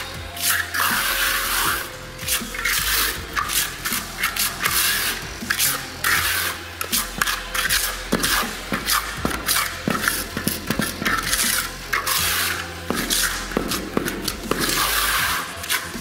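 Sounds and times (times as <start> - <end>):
trowel scraping a floor: 0.0 - 16.0.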